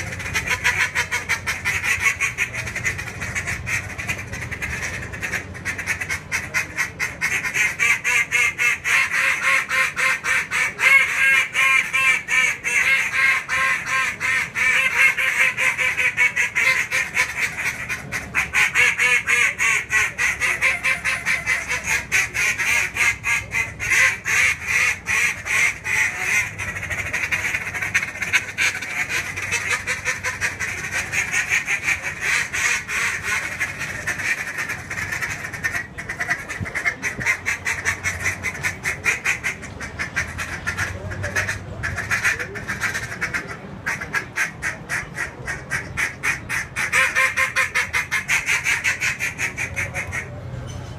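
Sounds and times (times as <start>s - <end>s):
duck calls quacking: 0.0s - 50.4s.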